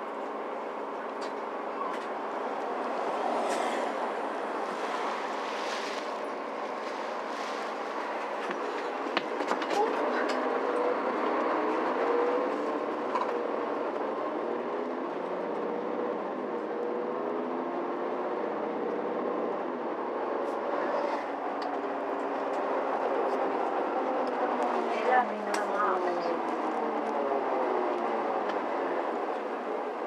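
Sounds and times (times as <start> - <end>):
constant rushing noise: 0.0 - 16.8, 17.7 - 30.0
bus engine drone: 0.0 - 30.0.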